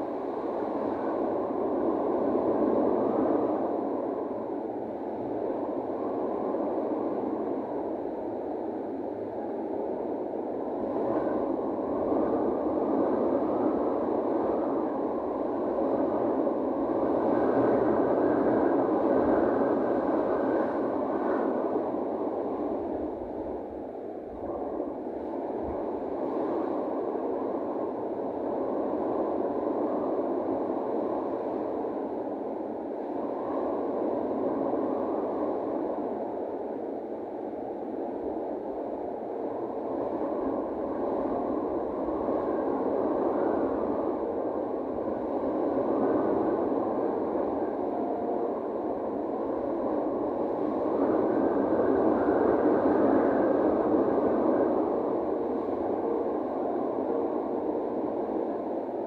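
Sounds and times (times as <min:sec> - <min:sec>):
wind rushing at sea: 0:00.0 - 0:59.0.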